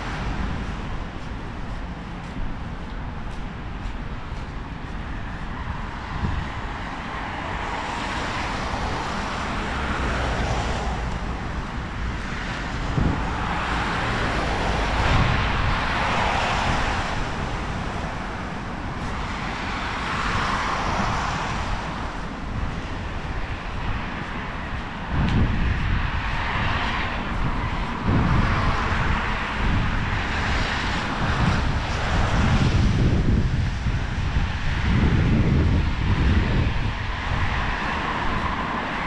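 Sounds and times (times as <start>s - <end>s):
low traffic rumble: 0.0s - 39.0s
vehicles passing: 0.0s - 39.0s.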